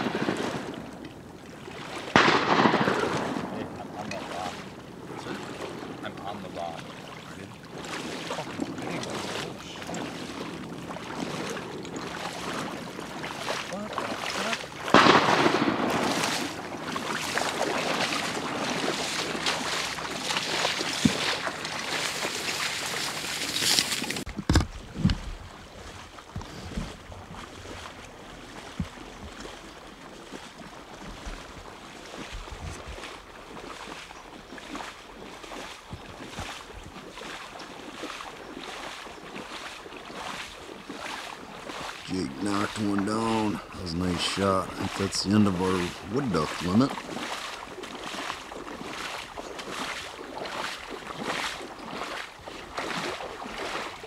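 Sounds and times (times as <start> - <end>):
water sloshing and splashing: 0.0 - 54.0.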